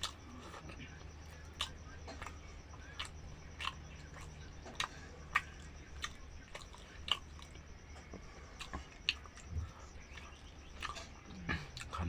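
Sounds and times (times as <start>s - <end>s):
chewing with wet mouth smacks: 0.0s - 12.0s.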